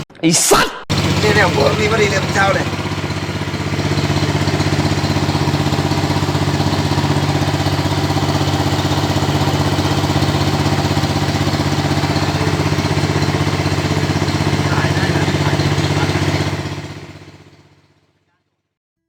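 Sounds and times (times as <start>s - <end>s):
motorboat engine humming: 0.9s - 18.0s.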